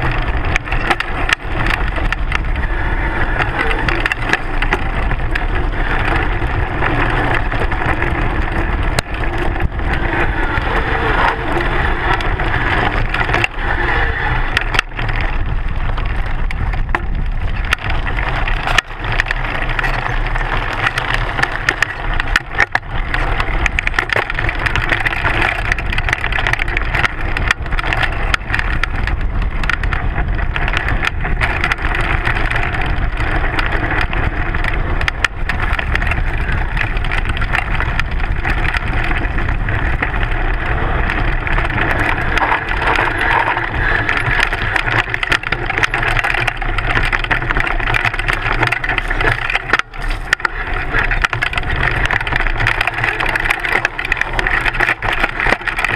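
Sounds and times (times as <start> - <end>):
bike rattling clicks and knocks: 0.0 - 55.9
bike tyre rumble on gravel: 0.0 - 55.9
wind on microphone: 0.0 - 55.9.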